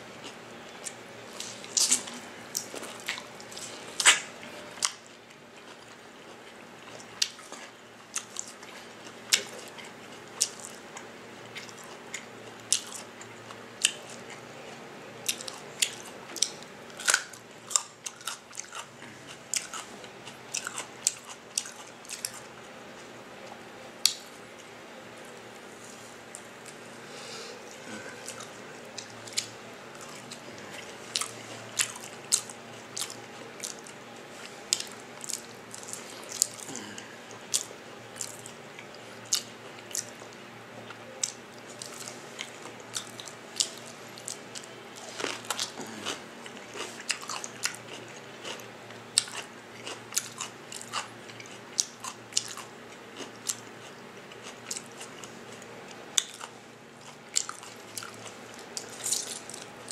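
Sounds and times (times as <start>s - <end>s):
person chewing and crunching: 0.2s - 23.1s, 27.7s - 59.9s.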